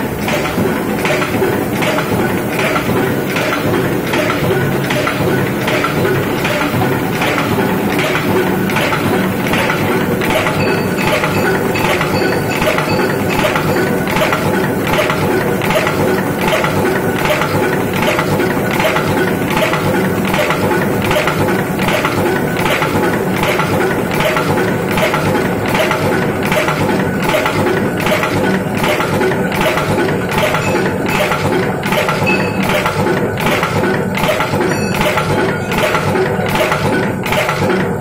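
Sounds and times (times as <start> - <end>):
machine hum: 0.0 - 38.0
power press metallic clatter: 0.0 - 38.0.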